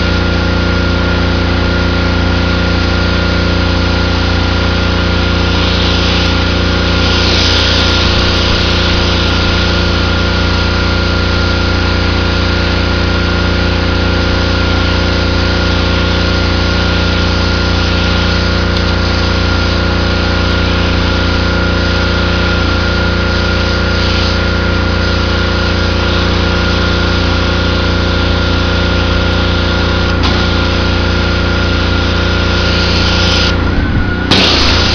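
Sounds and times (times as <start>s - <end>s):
spray jet hissing on concrete: 0.0s - 33.6s, 34.3s - 34.9s
pressure washer engine droning: 0.0s - 34.9s.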